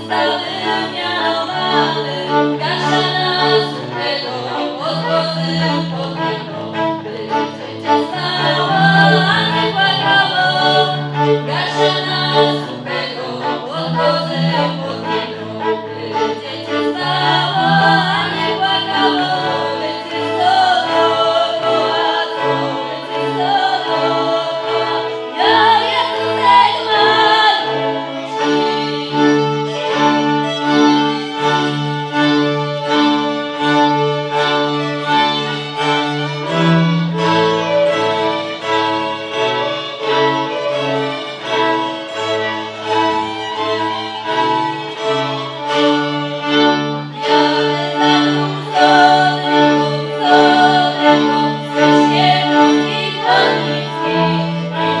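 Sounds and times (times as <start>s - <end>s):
people singing: 0.0s - 38.6s, 46.4s - 55.0s
folk string band playing: 0.0s - 55.0s.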